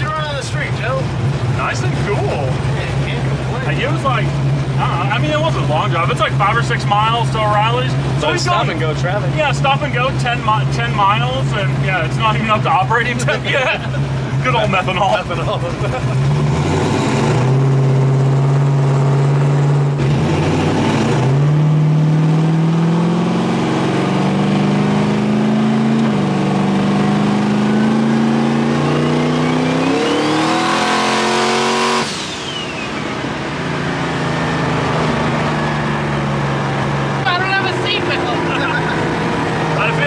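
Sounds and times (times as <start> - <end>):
car engine accelerating: 0.0 - 40.0
high turbo whine: 0.0 - 40.0.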